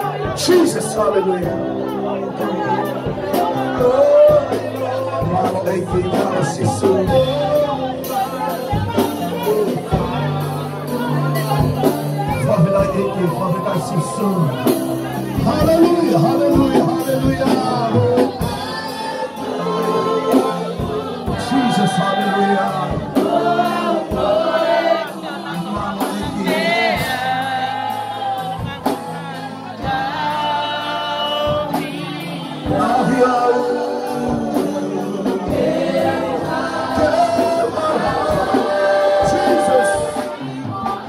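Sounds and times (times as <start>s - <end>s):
congregation singing a gospel song: 0.0s - 41.0s.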